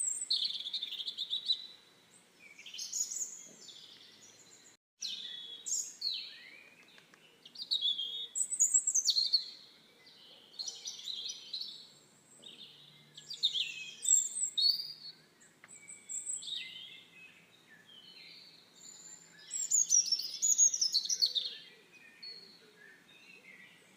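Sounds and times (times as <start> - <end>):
birds chirping and warbling: 0.0 - 23.9.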